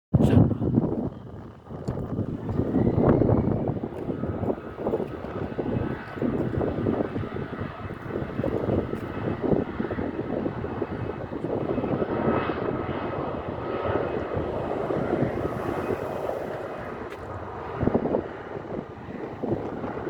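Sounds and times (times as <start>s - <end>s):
loud jet engine rumble: 0.2s - 20.0s
faint engine whine: 0.4s - 20.0s.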